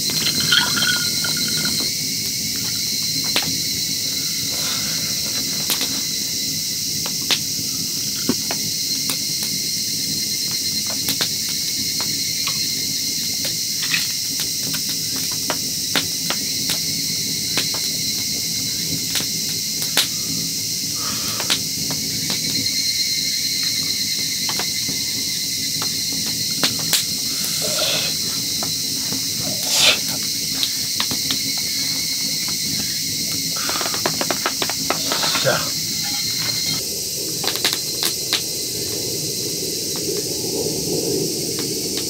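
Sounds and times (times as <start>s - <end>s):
campfire crackling and popping: 0.0s - 42.0s
insects droning: 0.0s - 42.0s.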